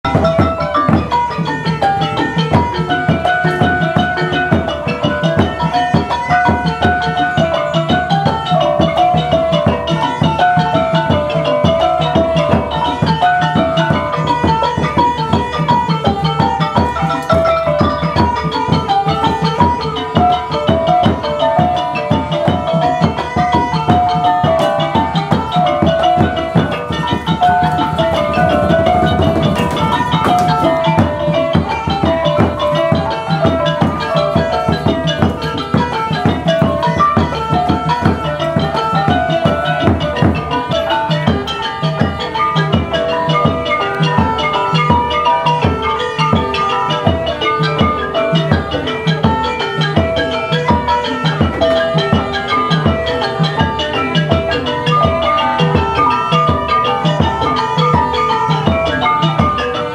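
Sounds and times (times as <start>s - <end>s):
drums: 0.0s - 59.9s
xylophones playing: 0.0s - 59.9s.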